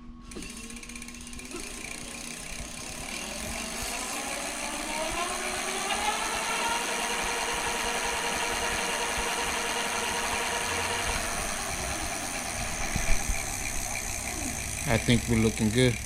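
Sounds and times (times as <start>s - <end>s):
electric motor whine: 0.2s - 16.0s.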